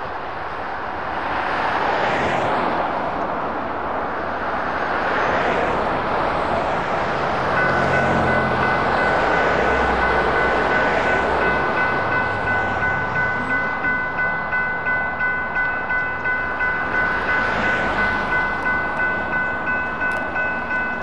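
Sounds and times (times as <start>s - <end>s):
passing road traffic: 0.0s - 21.0s
railroad crossing bells ringing: 4.1s - 21.0s.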